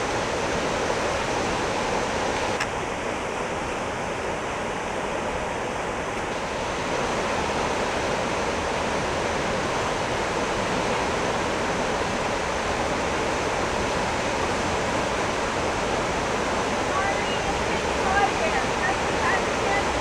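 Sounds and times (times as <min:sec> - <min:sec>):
floodwater rushing down creek: 0:00.0 - 0:20.0.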